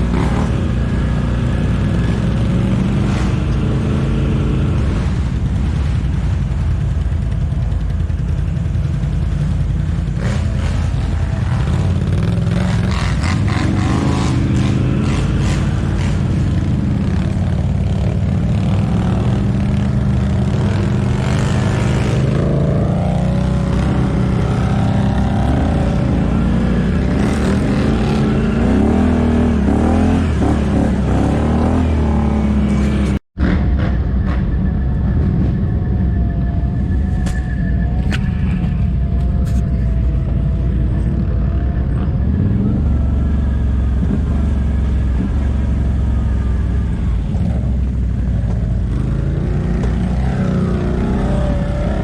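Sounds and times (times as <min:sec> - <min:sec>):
atv engine revving: 0:00.0 - 0:34.6, 0:38.3 - 0:52.0.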